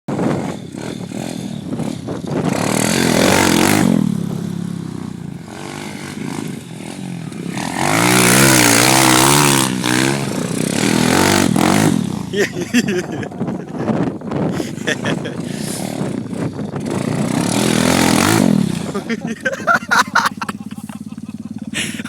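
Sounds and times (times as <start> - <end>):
motorbike engine revving: 0.1 - 22.0.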